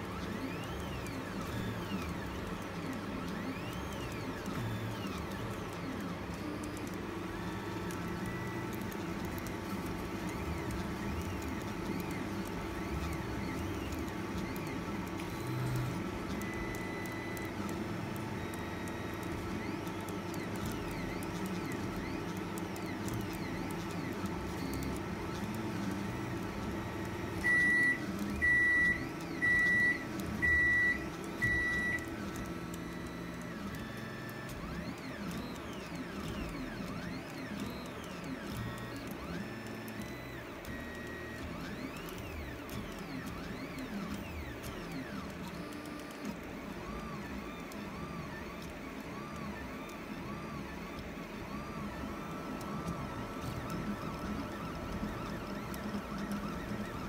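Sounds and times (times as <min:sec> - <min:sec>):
stepper motors whining: 0:00.1 - 0:57.0.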